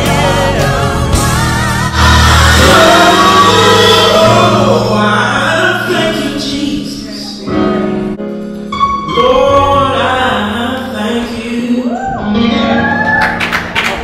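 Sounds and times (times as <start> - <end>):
gospel singing with instruments: 0.0 - 8.2, 8.8 - 13.1.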